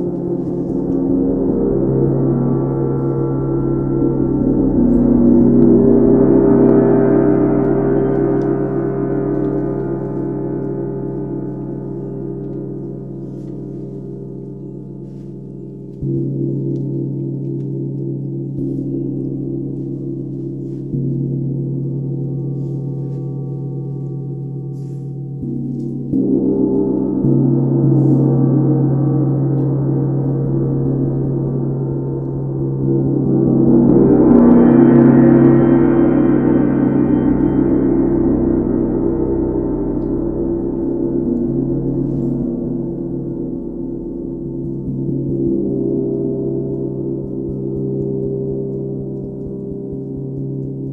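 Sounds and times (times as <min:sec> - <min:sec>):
tam-tam struck ringing: 0:00.0 - 0:50.9.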